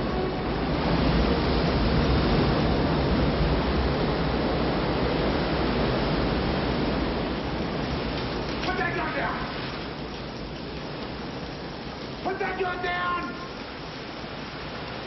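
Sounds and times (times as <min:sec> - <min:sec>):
water rushing down dam spillway: 0:00.1 - 0:15.0.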